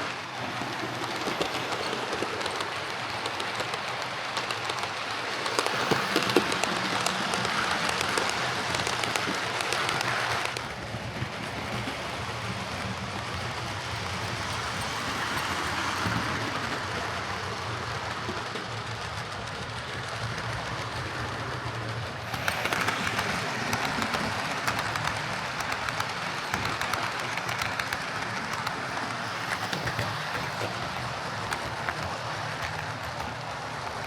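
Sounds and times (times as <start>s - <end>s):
model train motor humming: 0.0s - 34.0s
wheels clicking on rails: 0.0s - 34.0s.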